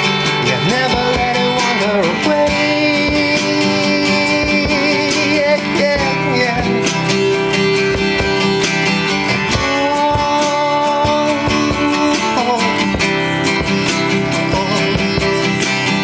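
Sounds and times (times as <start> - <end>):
acoustic guitar strumming: 0.0 - 16.0
percussive beat: 0.0 - 16.0.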